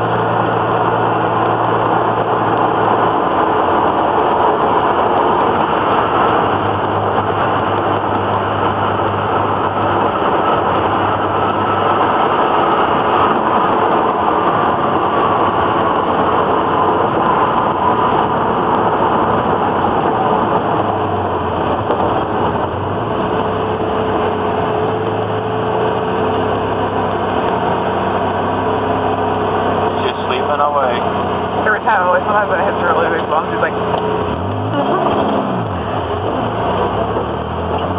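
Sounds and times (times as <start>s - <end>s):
car engine drone: 0.0s - 37.9s.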